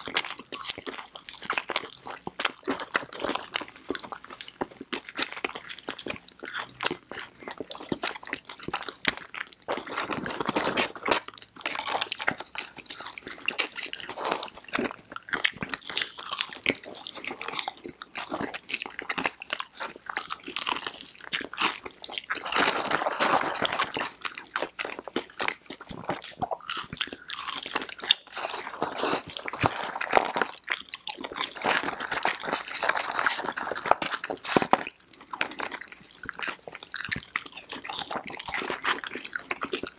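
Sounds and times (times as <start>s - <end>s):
crunchy fried food being chewed: 0.0s - 39.9s.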